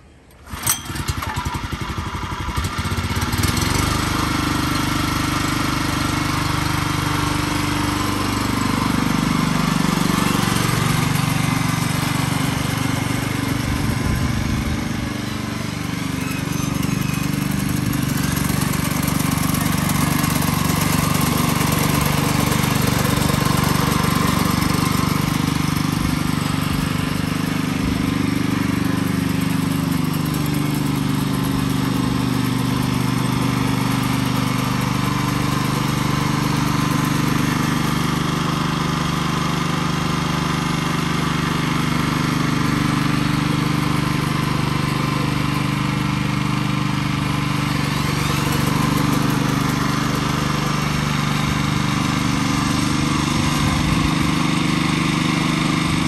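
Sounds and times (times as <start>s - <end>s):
small engine running: 0.2s - 56.0s.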